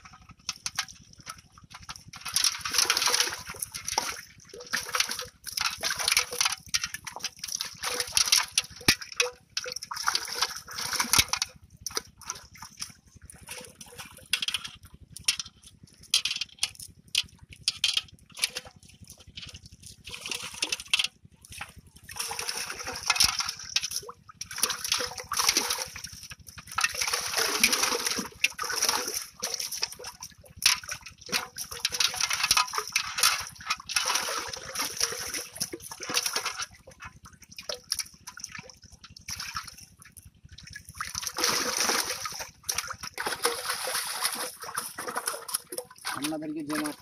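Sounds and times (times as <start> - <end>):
fish thrashing in water: 0.0 - 47.0
hands stirring water: 0.0 - 47.0
water splashing in a pot: 0.0 - 47.0.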